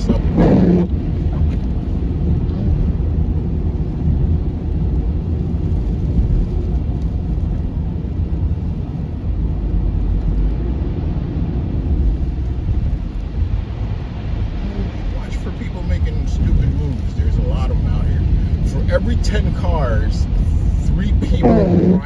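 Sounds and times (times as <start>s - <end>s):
car road noise from inside: 0.0s - 22.0s.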